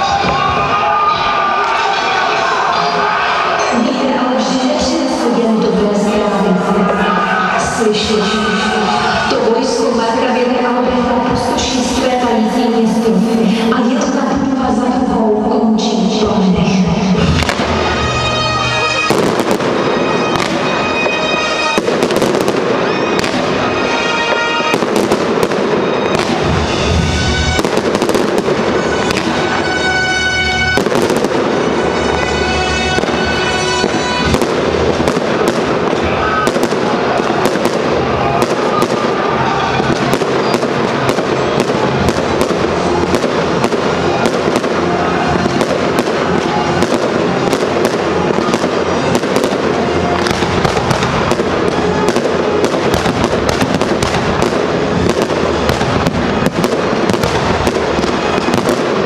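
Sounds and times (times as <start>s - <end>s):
fireworks bangs and crackling: 0.0s - 14.8s, 15.8s - 59.0s.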